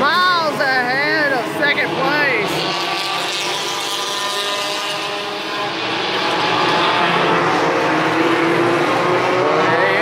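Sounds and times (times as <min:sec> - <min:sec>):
race car engines passing: 0:00.0 - 0:10.0.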